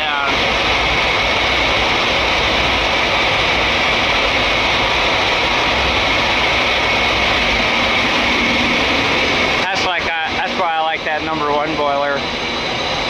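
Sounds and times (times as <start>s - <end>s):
boiler burners rushing: 0.0s - 13.0s
thin steady whine: 0.0s - 13.0s.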